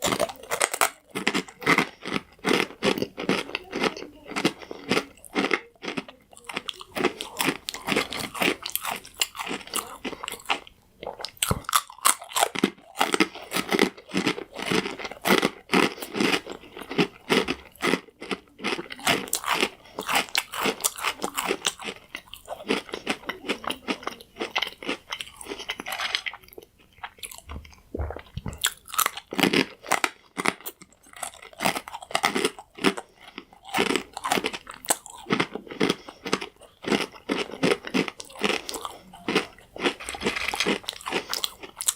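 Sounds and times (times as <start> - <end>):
croutons crunching while chewed: 0.0 - 41.9.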